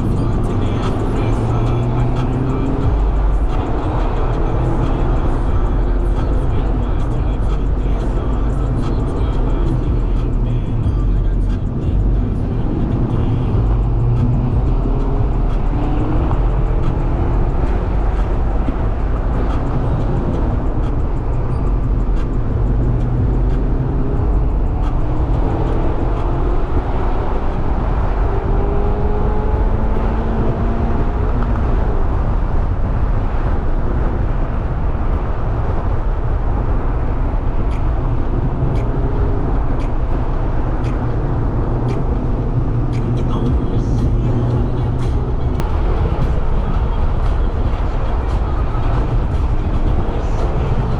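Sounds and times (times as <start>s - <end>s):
car engine revving: 0.0s - 50.9s
road and tyre noise: 0.0s - 50.9s.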